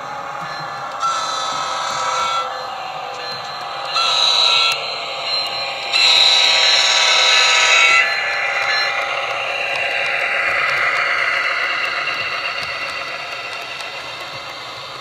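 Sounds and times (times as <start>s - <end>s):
passing train running: 0.0s - 15.0s.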